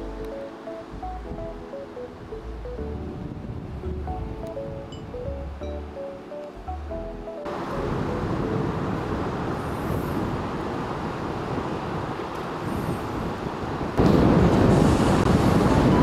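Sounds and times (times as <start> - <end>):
low rumbling noise: 0.0 - 13.0, 13.8 - 16.0.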